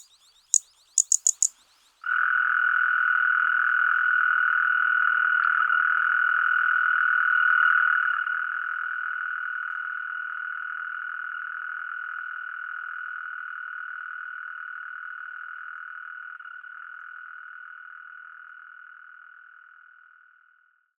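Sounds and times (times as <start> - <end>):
mole cricket trilling: 0.0 - 19.8.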